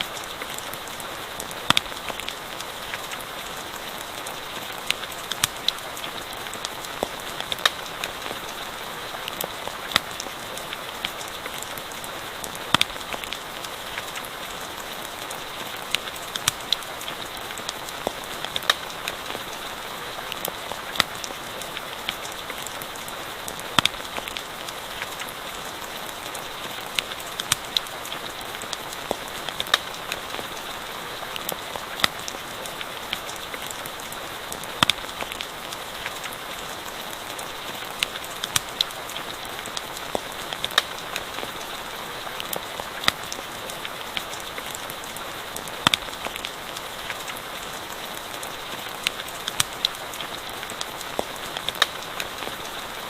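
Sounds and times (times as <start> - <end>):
campfire crackling and popping: 0.0 - 53.0
steady rain hissing: 0.0 - 53.0.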